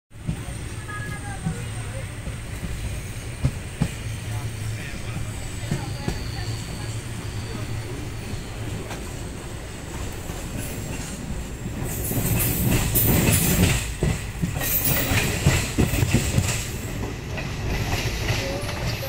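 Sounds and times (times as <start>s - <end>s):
train rumbling: 0.1s - 19.0s.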